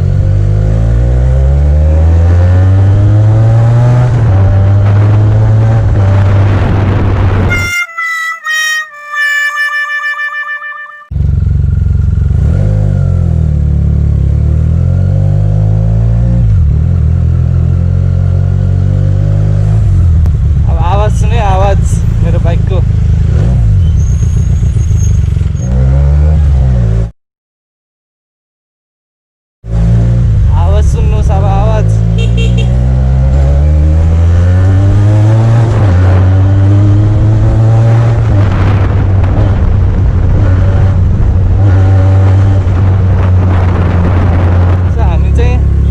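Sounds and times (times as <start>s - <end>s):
motorcycle engine revving: 0.0s - 7.5s, 11.1s - 27.1s, 29.7s - 45.9s.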